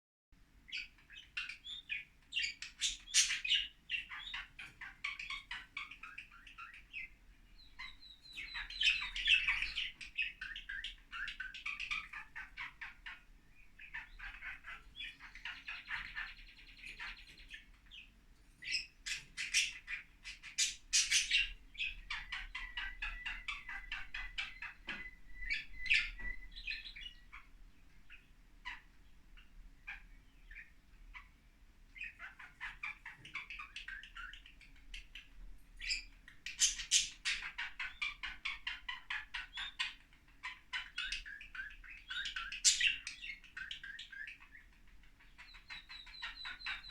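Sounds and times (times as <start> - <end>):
budgerigars chattering and chirping: 0.7 - 46.9.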